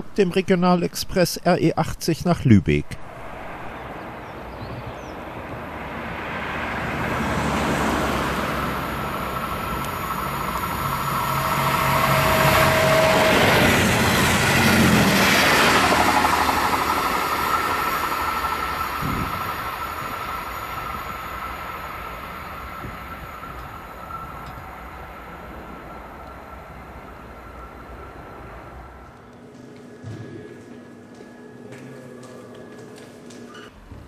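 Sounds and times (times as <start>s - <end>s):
diesel train passing: 2.7s - 34.0s.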